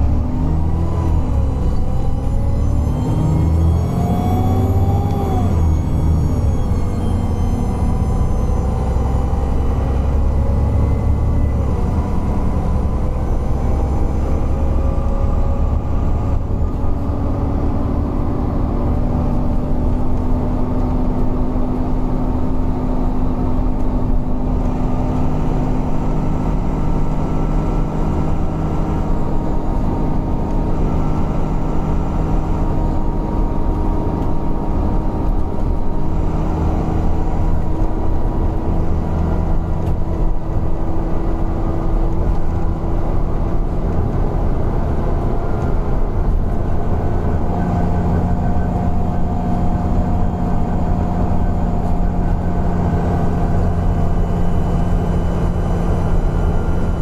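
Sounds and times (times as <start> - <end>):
bus engine rumble: 0.0 - 57.0
drivetrain whine: 0.0 - 57.0.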